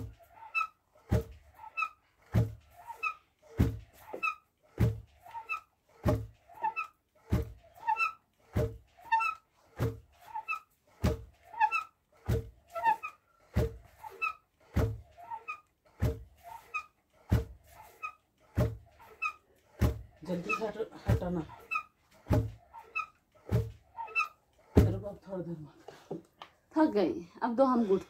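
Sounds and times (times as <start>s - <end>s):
wooden beam squeaking: 0.0s - 25.3s
wooden pestle thudding: 1.0s - 25.2s.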